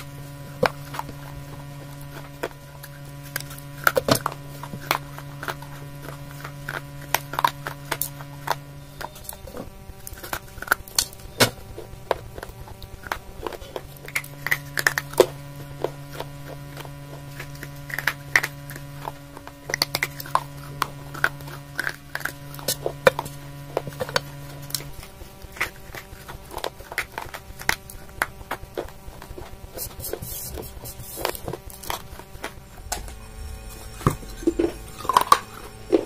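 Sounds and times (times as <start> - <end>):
baked clay cracking and crunching: 0.0 - 36.0
low hum: 0.0 - 36.0.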